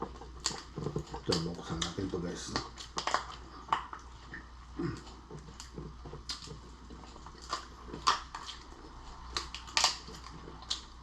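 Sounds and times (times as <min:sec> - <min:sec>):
lobster shell cracking: 0:00.0 - 0:04.1, 0:05.0 - 0:11.0.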